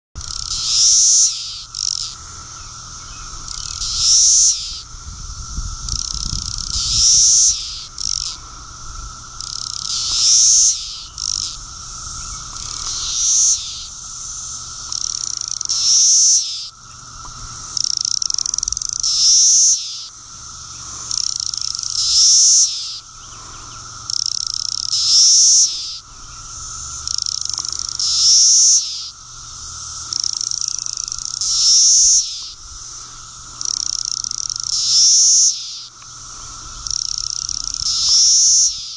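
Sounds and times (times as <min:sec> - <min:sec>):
cicada chorus drone: 0:00.2 - 0:38.9
cicada loud high call: 0:00.2 - 0:38.9.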